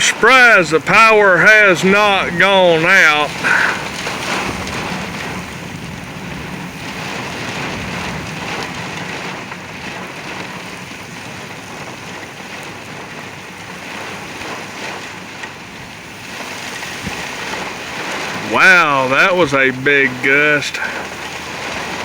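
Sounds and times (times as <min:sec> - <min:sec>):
heavy rain pelting a truck: 0:00.0 - 0:22.0
strong gusty wind: 0:00.0 - 0:22.0.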